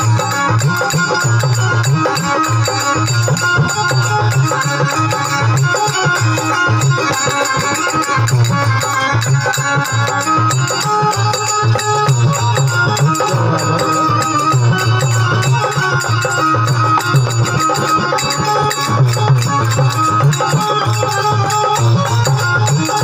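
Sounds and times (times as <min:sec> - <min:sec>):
fast rhythmic percussion: 0:00.0 - 0:23.0
folk music drum beat: 0:00.0 - 0:23.0
held melodic tones: 0:00.0 - 0:23.0.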